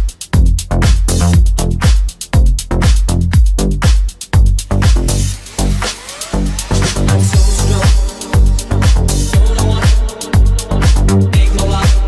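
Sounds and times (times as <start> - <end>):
dance music kick drum: 0.0 - 12.0
deep bass line: 0.0 - 12.0.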